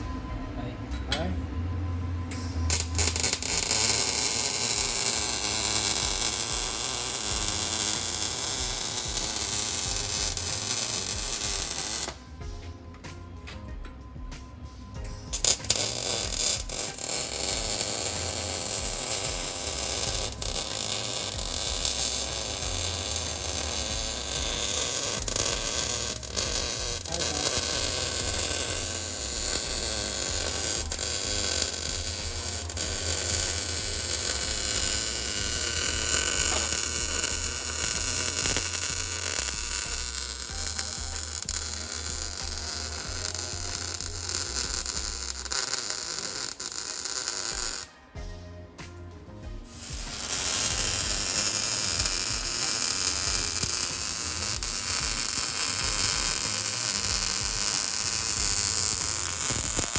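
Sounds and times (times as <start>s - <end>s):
welding crackling hiss: 2.3s - 12.4s, 15.0s - 48.2s, 49.6s - 59.9s.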